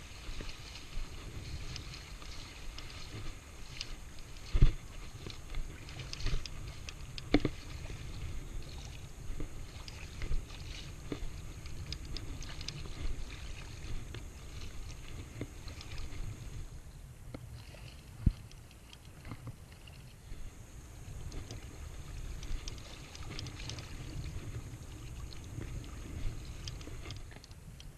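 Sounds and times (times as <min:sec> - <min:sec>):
fishing rod and reel ticks: 0:00.0 - 0:27.9
small waves lapping and splashing: 0:00.0 - 0:27.9
wind rumble on microphone: 0:00.0 - 0:27.9.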